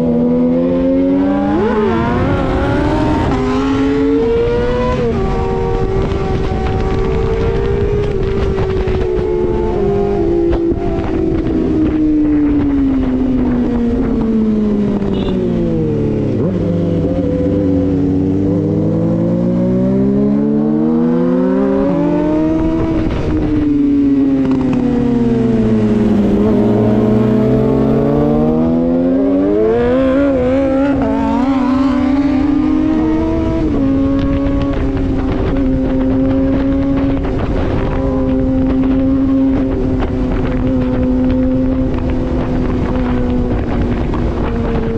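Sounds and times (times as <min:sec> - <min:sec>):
motorcycle engine: 0:00.0 - 0:44.9.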